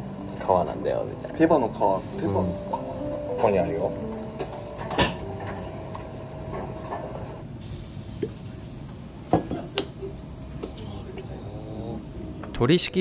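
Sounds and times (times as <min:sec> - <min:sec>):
restaurant room tone: 0:00.0 - 0:13.0.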